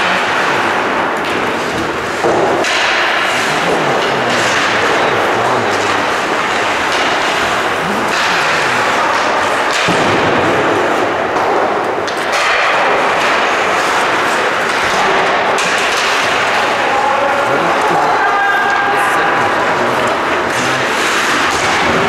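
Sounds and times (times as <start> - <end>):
sharp knocks of sticks and puck: 0.0 - 22.0.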